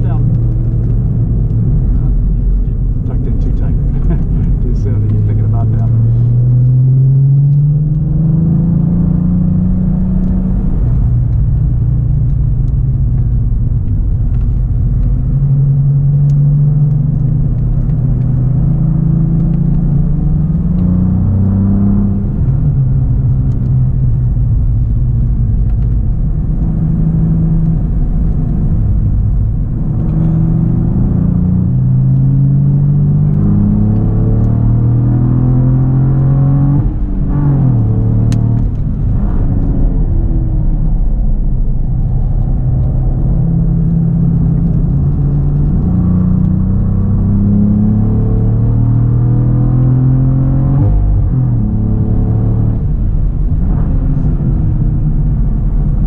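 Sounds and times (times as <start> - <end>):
car engine accelerating: 0.0 - 56.0
road and tyre rumble: 0.0 - 56.0.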